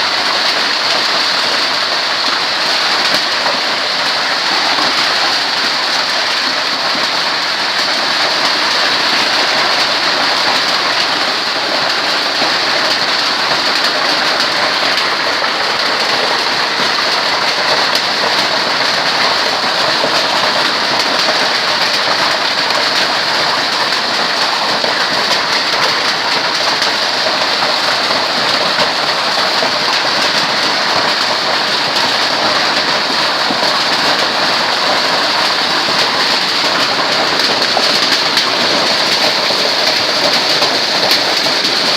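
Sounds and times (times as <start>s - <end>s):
hail and heavy rain falling: 0.0s - 41.9s.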